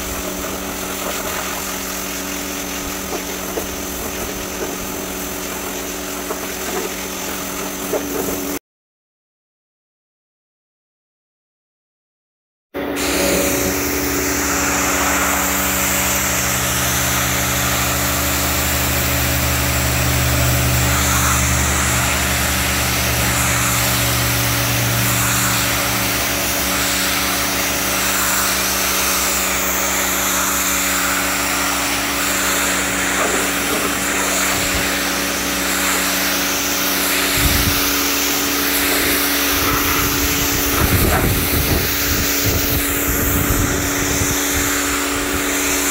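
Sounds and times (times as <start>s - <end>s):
deeper hum: 0.0s - 8.6s, 12.8s - 45.9s
pressure washer motor hum: 0.0s - 8.6s, 12.8s - 45.9s
water jet hissing: 0.0s - 8.6s, 12.8s - 45.9s.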